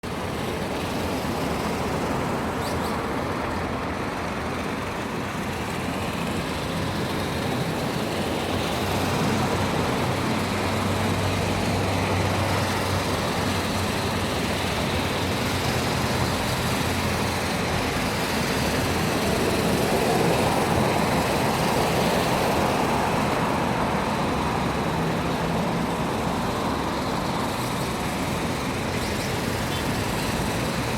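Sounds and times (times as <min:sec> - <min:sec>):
road traffic noise: 0:00.0 - 0:30.9.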